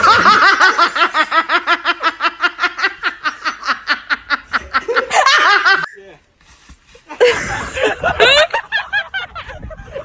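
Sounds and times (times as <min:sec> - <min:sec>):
person laughing hard: 0:00.0 - 0:05.9, 0:07.1 - 0:10.0.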